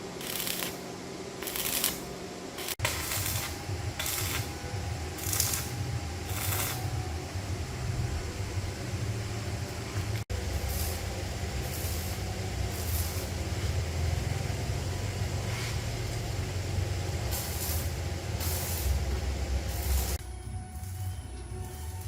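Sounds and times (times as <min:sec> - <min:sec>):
bursts of hissing air: 0:00.0 - 0:07.4, 0:09.8 - 0:20.2
motor humming: 0:00.0 - 0:22.0.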